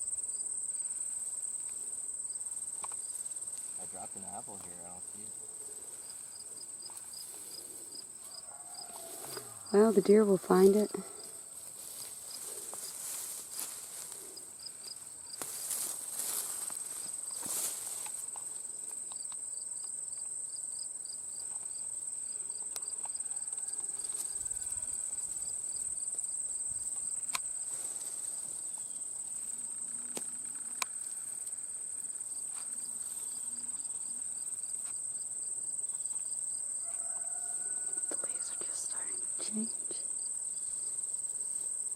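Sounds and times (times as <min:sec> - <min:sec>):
insect high-pitched trill: 0:00.0 - 0:41.9.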